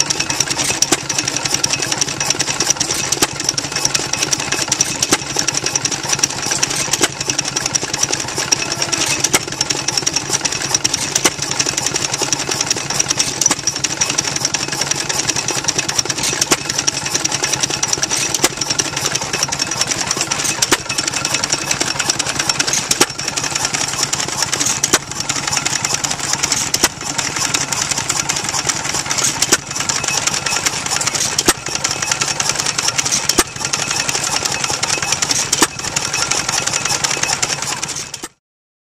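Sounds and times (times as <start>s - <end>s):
mechanical clatter: 0.0s - 38.4s
stationary engine running: 0.0s - 38.4s.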